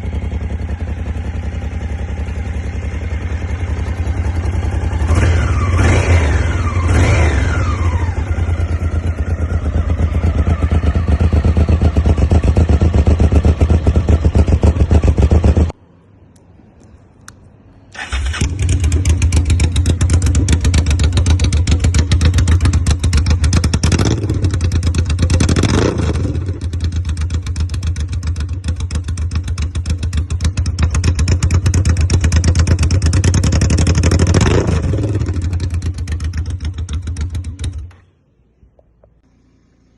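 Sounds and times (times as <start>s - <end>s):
motorcycle engine idling: 0.0s - 5.8s, 6.4s - 15.8s, 18.0s - 38.2s.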